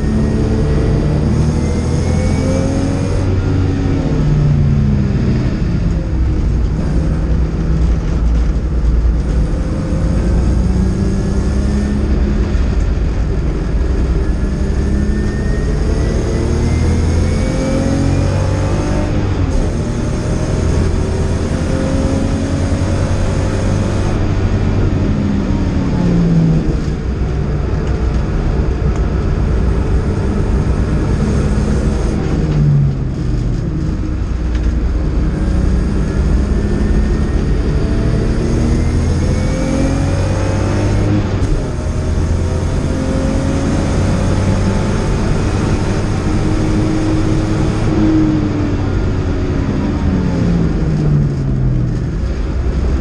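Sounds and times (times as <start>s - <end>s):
car engine revving through gears: 0.0s - 53.0s.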